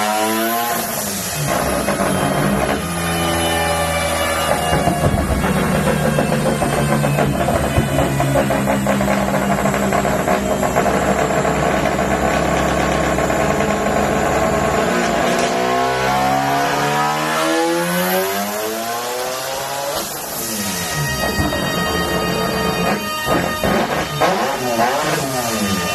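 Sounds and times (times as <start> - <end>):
rotary engine revving: 0.0 - 20.6, 22.0 - 25.9.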